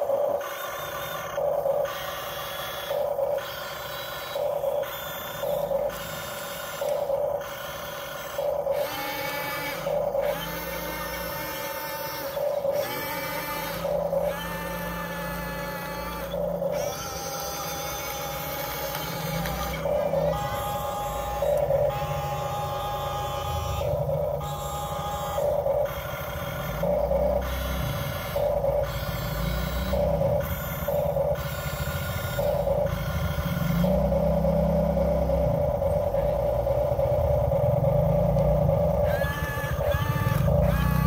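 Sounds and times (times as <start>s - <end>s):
electric gear motors whining: 0.0s - 41.0s.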